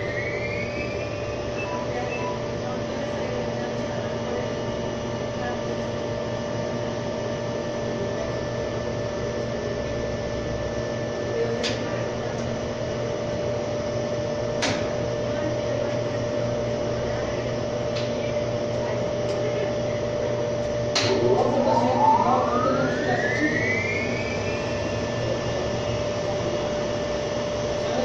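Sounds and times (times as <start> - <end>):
washing machine drum whine: 0.0 - 28.0
washing machine humming: 0.0 - 28.0.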